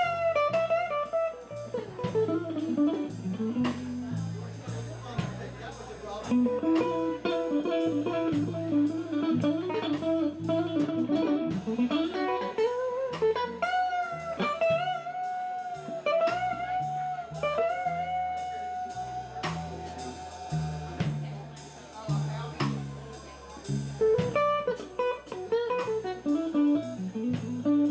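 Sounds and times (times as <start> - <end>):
electric guitar lead: 0.0 - 5.6, 6.2 - 27.9
bass guitar: 0.0 - 27.9
drums: 0.0 - 27.9.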